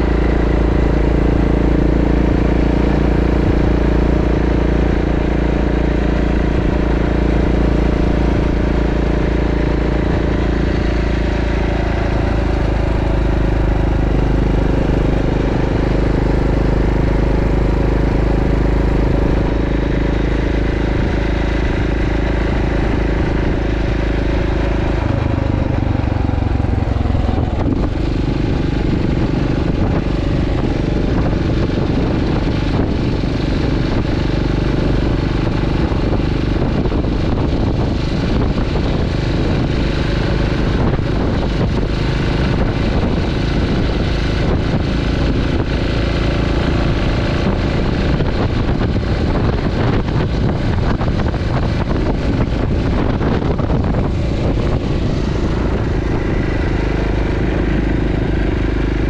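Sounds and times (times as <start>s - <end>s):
motorcycle engine cruising: 0.0s - 59.0s
wind rush: 0.0s - 59.0s.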